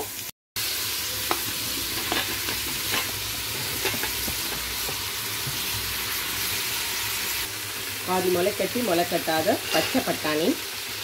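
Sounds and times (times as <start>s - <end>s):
vegetables sizzling in hot fat: 0.0s - 11.0s.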